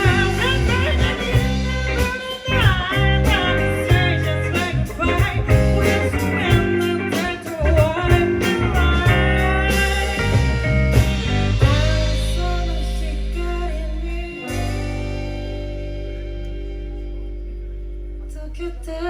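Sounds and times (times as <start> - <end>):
person singing: 0.0 - 10.7, 11.6 - 15.8, 18.2 - 19.0
guitar: 0.0 - 19.0.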